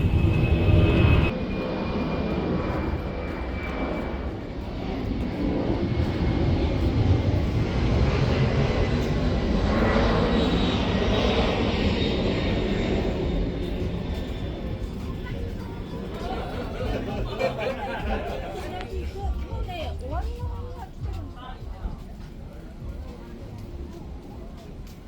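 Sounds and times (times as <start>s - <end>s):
aircraft engine rumble: 0.0s - 25.0s.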